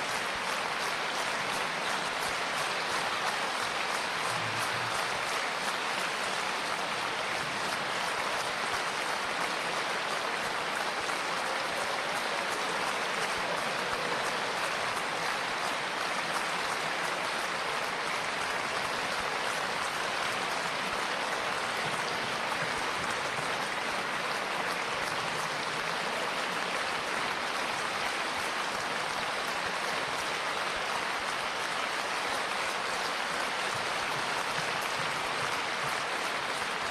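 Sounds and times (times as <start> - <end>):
large audience applauding: 0.0 - 36.9.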